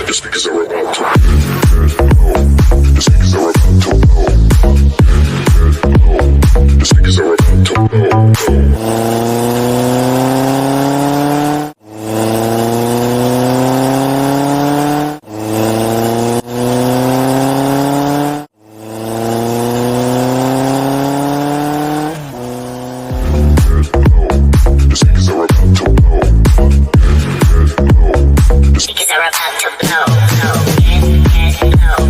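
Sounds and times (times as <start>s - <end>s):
race car engine revving: 0.8s - 28.9s, 30.3s - 32.0s.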